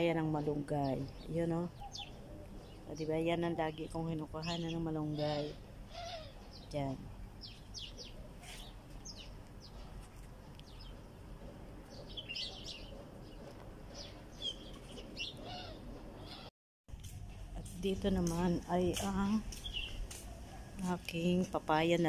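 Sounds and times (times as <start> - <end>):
small birds chirping: 0.0 - 16.5, 17.6 - 22.0.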